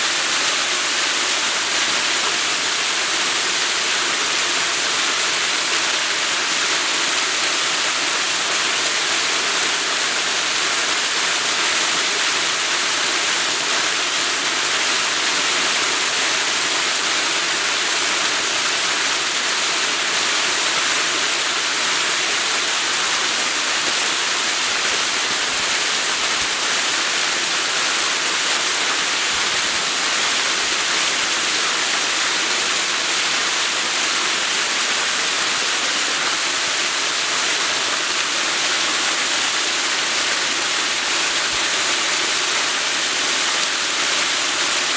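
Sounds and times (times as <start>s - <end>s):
waterfall rushing: 8.0s - 44.9s.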